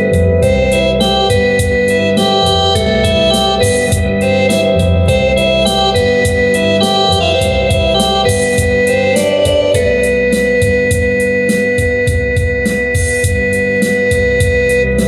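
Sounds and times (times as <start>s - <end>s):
electronic organ melody: 0.0s - 15.0s
rhythm box beat: 0.0s - 15.0s.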